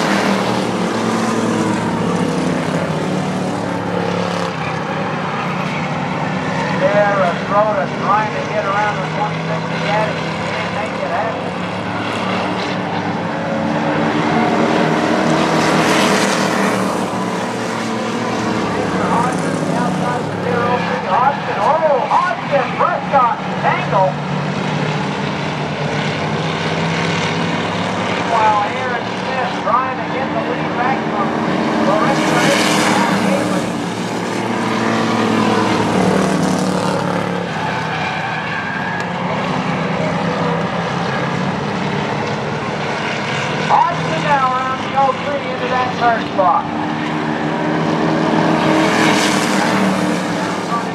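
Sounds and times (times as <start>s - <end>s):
stock car engines racing: 0.0s - 50.9s.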